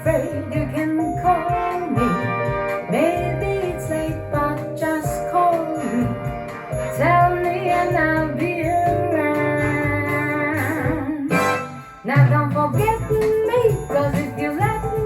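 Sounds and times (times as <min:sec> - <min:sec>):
bass and instrumental accompaniment: 0:00.0 - 0:15.0.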